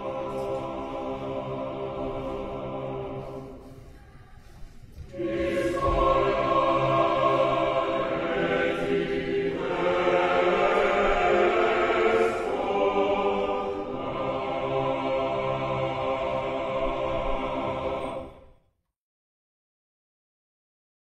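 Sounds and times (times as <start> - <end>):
mixed choir chanting a cappella: 0.0 - 18.6.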